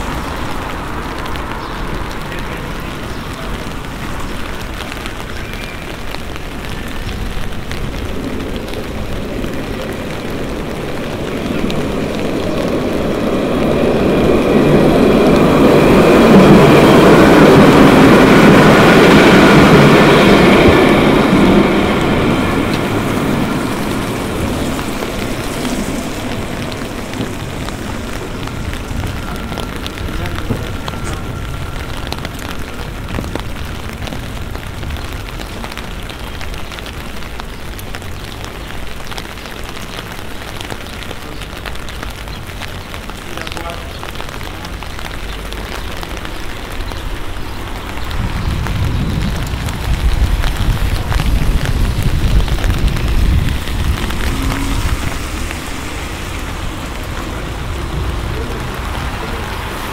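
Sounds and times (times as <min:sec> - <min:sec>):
rain pattering on umbrella: 0:00.0 - 0:59.9
tram electric whine: 0:00.0 - 0:59.9
wheels hissing on wet rails: 0:00.0 - 0:59.9.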